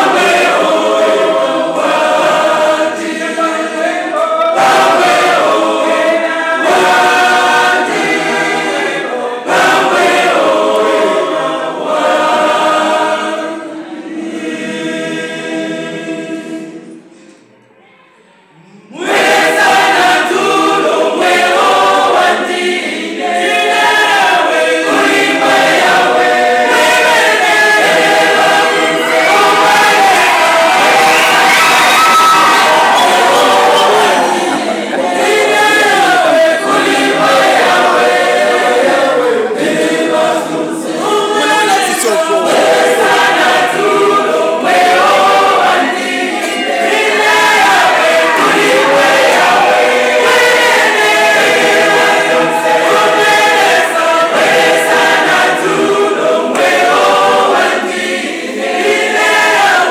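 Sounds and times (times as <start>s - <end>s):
women's choir singing: 0.0s - 17.5s, 18.5s - 59.9s.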